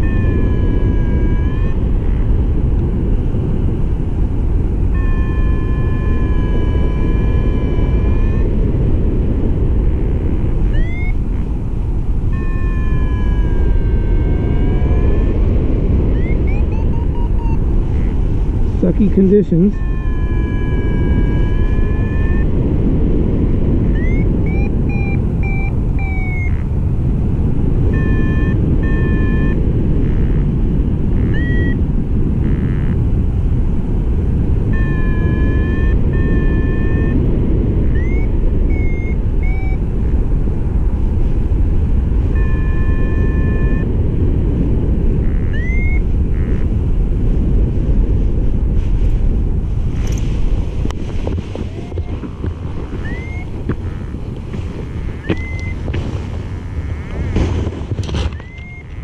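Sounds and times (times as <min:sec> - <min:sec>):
variometer beeps and chirps: 0:00.0 - 0:33.3, 0:34.4 - 0:39.9, 0:42.0 - 0:46.8, 0:51.6 - 0:59.0
wind rushing over microphone: 0:00.0 - 0:59.0.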